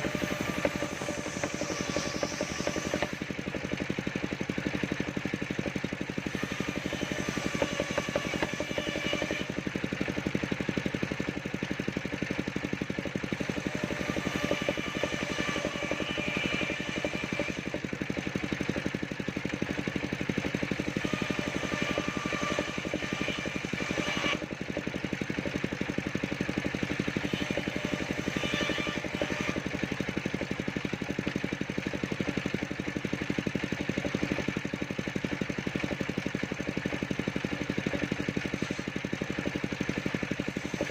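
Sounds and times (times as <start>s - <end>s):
saw blade whine: 0.0s - 40.9s
sawmill engine running: 0.0s - 40.9s.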